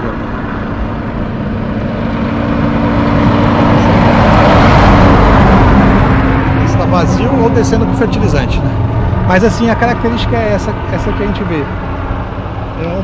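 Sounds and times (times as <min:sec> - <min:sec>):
heavy truck driving past: 0:00.0 - 0:13.0.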